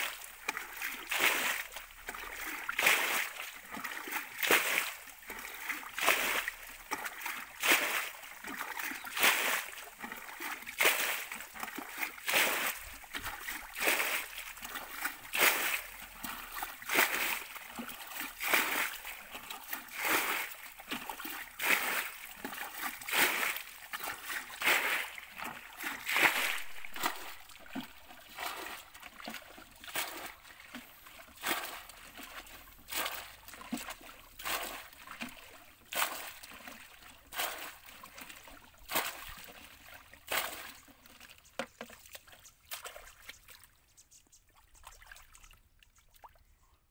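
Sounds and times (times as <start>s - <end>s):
muddy water splashing: 0.0s - 46.5s.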